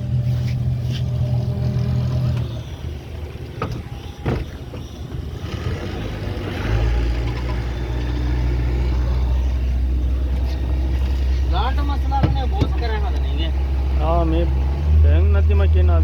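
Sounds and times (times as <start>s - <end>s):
motorboat engine drone: 0.0s - 16.0s.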